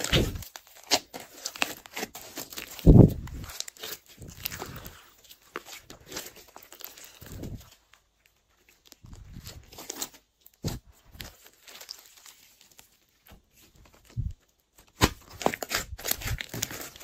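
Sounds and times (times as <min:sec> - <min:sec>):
slime squishing and crackling: 0:00.0 - 0:17.0.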